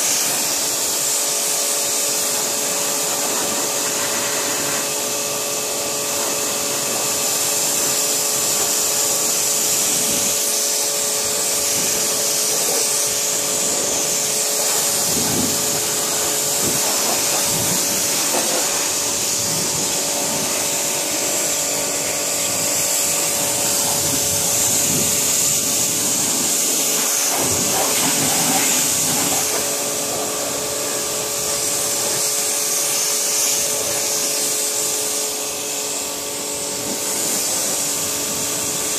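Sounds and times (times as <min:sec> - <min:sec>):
pressure washer motor whine: 0:00.0 - 0:38.9
water jet hissing on car: 0:00.0 - 0:38.9.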